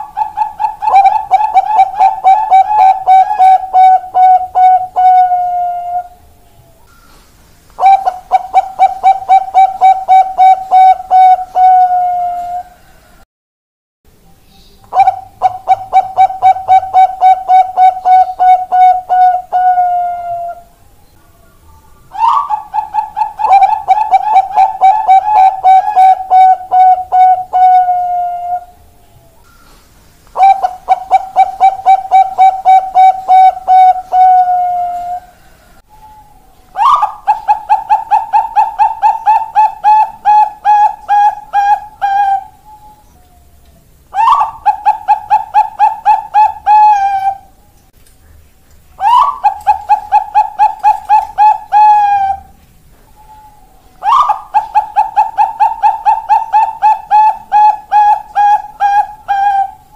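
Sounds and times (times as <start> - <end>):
doves cooing: 0.0 - 7.2, 7.8 - 13.1, 14.9 - 20.8, 22.1 - 29.7, 30.3 - 47.7, 49.0 - 59.9.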